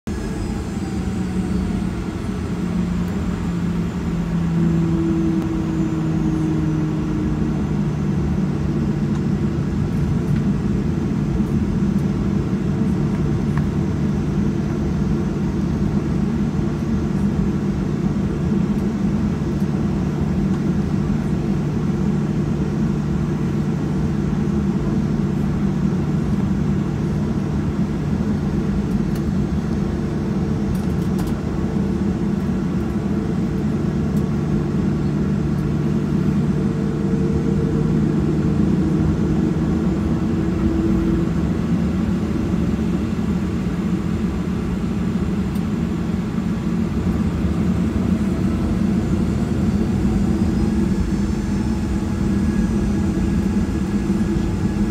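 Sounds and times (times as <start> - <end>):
jet engines droning in cabin: 0.0 - 54.9.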